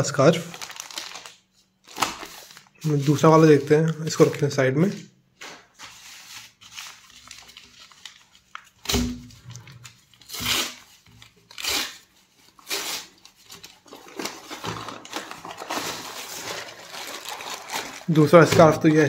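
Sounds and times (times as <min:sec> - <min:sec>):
paper envelope tearing and crinkling: 0:00.0 - 0:04.5, 0:05.8 - 0:18.7.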